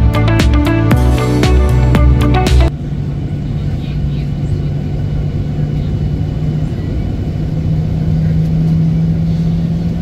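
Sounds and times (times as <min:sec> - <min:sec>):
jet engines droning: 0:00.8 - 0:10.0.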